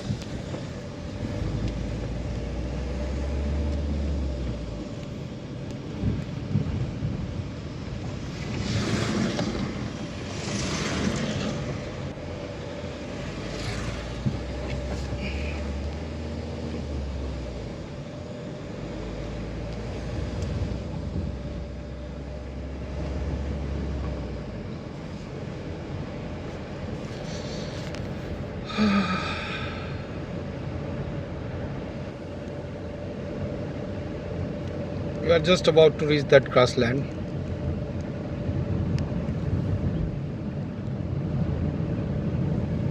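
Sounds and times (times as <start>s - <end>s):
vehicle engine whining: 0.0s - 42.9s.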